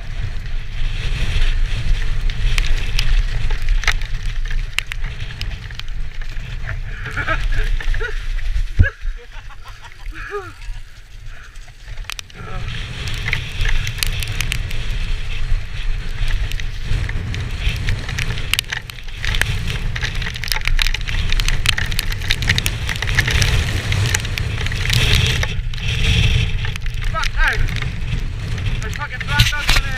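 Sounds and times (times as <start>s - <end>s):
bike rattling and knocking: 0.0s - 29.9s
tyres hissing on wet gravel: 0.0s - 29.9s
wind rumble on microphone: 0.0s - 29.9s.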